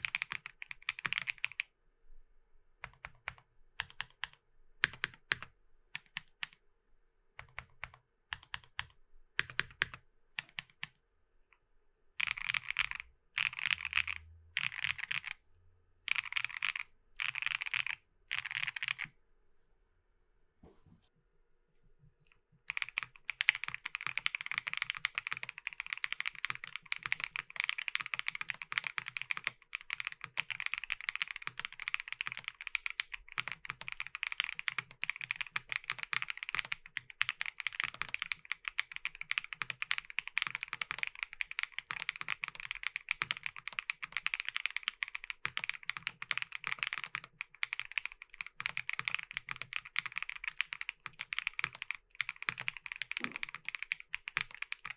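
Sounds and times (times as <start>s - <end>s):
mechanical keyboard typing: 0.0s - 1.6s, 2.8s - 6.6s, 7.4s - 10.9s, 12.2s - 15.4s, 16.1s - 19.1s, 22.7s - 54.9s.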